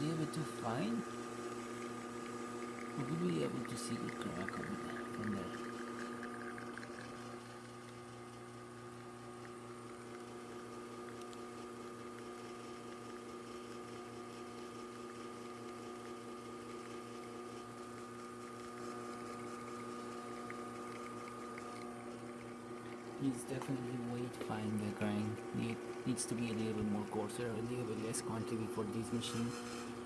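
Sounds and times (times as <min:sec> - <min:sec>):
espresso machine pump humming: 0:00.0 - 0:30.0.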